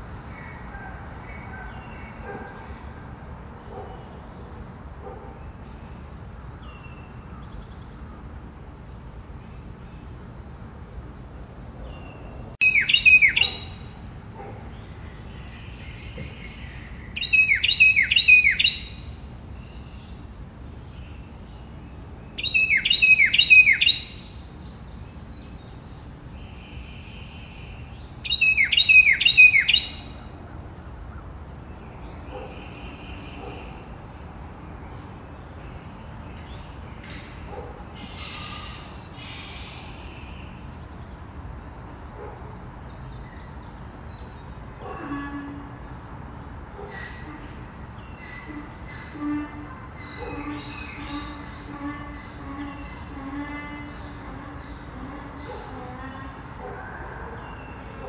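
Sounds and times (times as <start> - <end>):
high insect drone: 0.0 - 58.0
songbird singing: 0.0 - 58.0.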